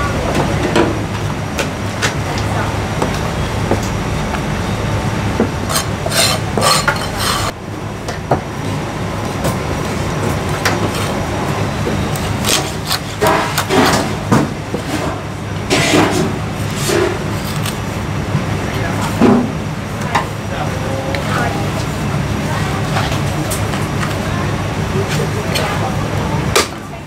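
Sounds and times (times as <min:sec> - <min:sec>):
kitchen machinery hum: 0:00.0 - 0:27.0.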